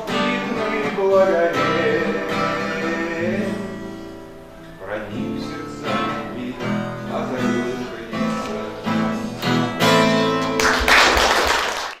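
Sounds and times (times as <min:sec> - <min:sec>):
acoustic guitar strumming chords: 0:00.0 - 0:10.9.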